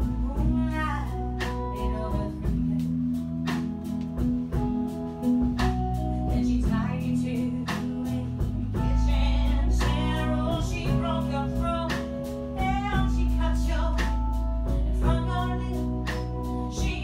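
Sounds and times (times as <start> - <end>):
woman singing: 0.0 - 3.7, 6.2 - 17.0
drums: 0.0 - 17.0
electric guitar: 0.0 - 17.0.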